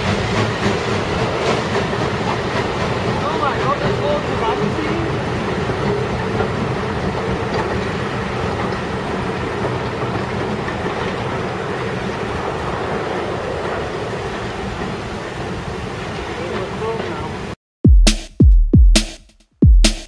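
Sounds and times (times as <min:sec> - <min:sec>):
train wheels rumbling on track: 0:00.0 - 0:17.5.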